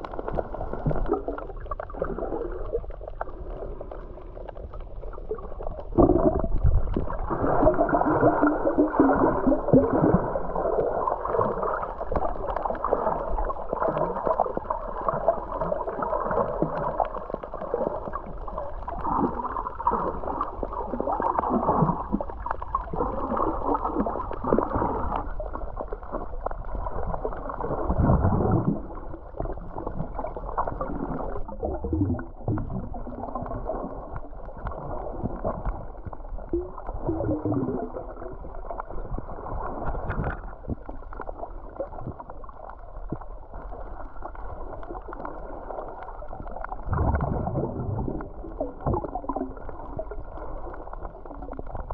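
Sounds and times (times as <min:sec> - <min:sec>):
low thumps underwater: 0:00.0 - 0:03.4, 0:04.6 - 0:18.3, 0:18.9 - 0:43.8, 0:44.5 - 0:51.9
underwater water movement: 0:00.0 - 0:51.9.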